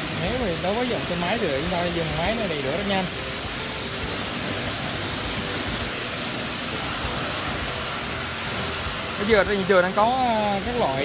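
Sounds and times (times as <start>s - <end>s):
electric pump running: 0.0s - 11.0s
pressure washer spraying water: 0.0s - 11.0s.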